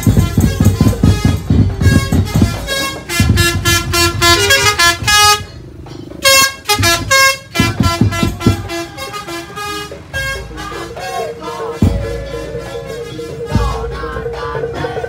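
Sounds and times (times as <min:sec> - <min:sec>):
heavy drum strokes: 0:00.0 - 0:09.2, 0:10.0 - 0:15.0
horn-like wind melody: 0:00.0 - 0:15.0.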